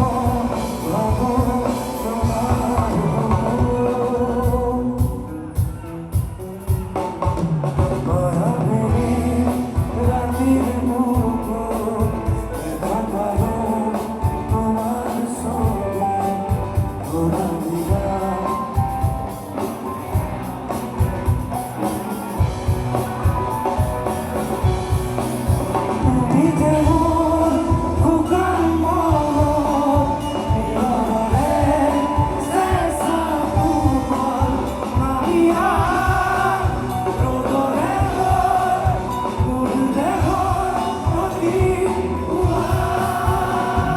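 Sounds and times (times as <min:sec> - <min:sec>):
person singing: 0:00.0 - 0:24.6, 0:25.7 - 0:43.9
live band playing: 0:00.0 - 0:43.9.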